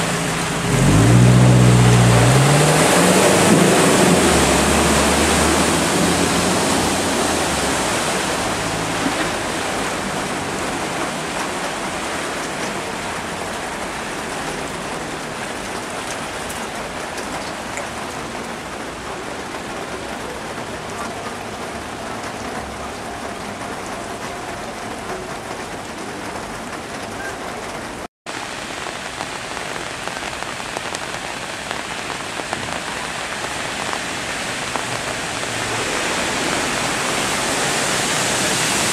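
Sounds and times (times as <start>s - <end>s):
heavy rain falling: 0.0s - 38.9s
vehicle churning through water: 0.0s - 38.9s.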